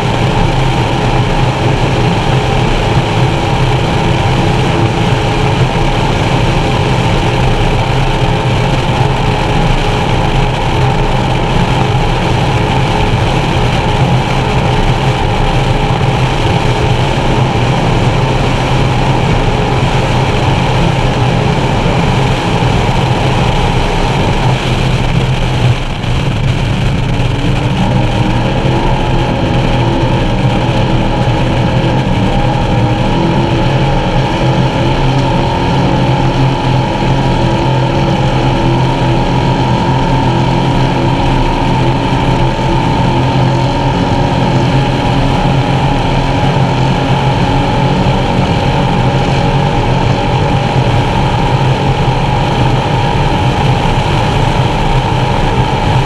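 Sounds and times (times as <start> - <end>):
boat engines running hard: 0.0 - 56.0
hull and water noise: 0.0 - 56.0.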